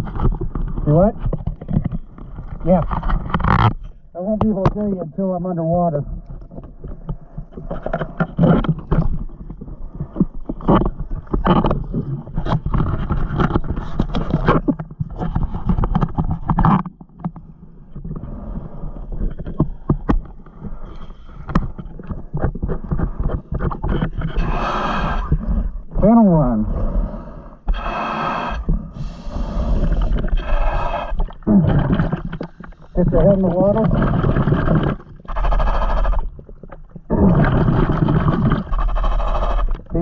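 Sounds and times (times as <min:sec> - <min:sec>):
knocks and gurgles: 0:00.0 - 0:26.8, 0:27.6 - 0:40.0
water splashing and sloshing: 0:06.0 - 0:26.4, 0:27.7 - 0:40.0.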